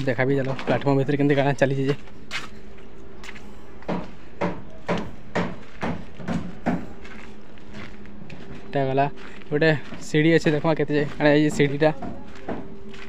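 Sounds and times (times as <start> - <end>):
footsteps on gritty concrete: 0.0 - 13.0.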